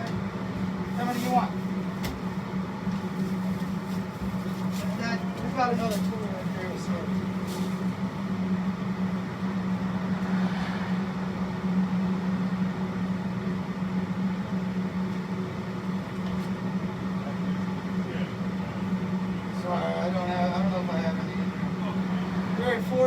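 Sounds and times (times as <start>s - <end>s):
food truck equipment humming: 0.0s - 23.0s.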